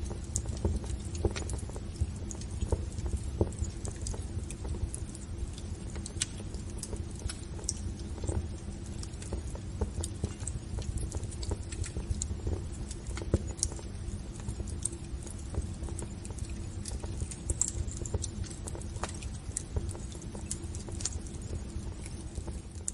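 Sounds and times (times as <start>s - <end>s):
logs popping and crackling: 0.0s - 22.9s
low rumble of flames: 0.0s - 22.9s.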